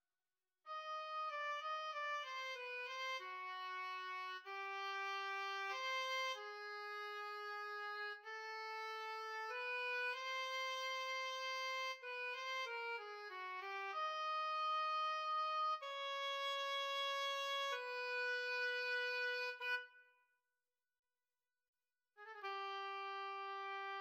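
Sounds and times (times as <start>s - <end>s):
synthesized oboe solo: 0.7s - 20.0s, 22.2s - 24.0s.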